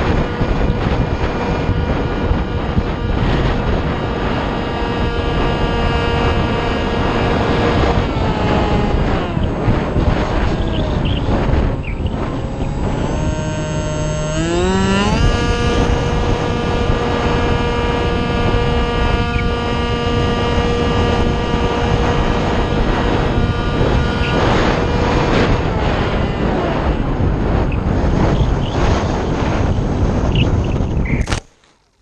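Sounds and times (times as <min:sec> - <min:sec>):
electric motor and propeller whining: 0:00.0 - 0:31.6
wind rushing over microphone: 0:00.0 - 0:31.6.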